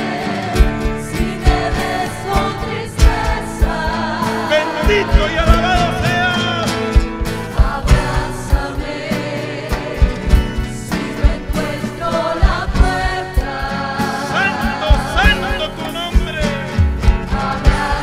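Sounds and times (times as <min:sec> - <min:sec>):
sustained accompaniment: 0:00.0 - 0:18.0
voices singing worship music: 0:00.0 - 0:18.0
low drum beat: 0:00.5 - 0:18.0.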